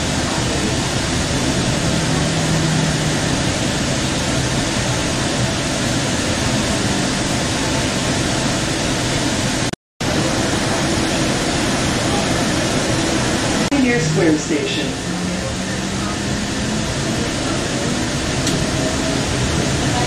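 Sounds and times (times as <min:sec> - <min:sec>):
train rumble and hiss: 0:00.0 - 0:20.0.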